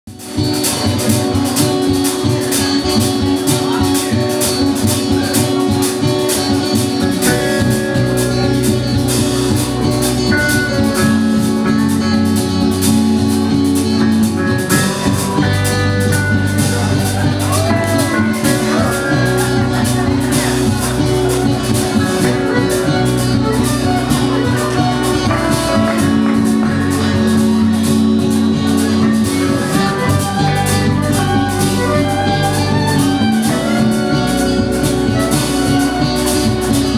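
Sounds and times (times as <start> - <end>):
drums: 0.0 - 36.9
bass and guitars: 0.1 - 36.9
high held melody line: 0.1 - 36.9.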